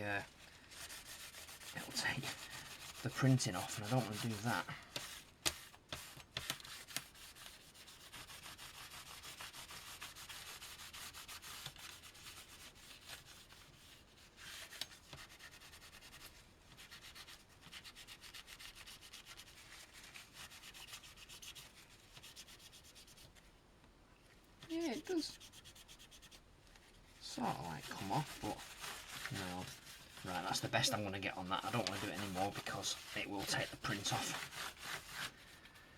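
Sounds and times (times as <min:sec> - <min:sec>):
cloth rubbing on casing: 0:00.0 - 0:23.5, 0:24.7 - 0:35.6.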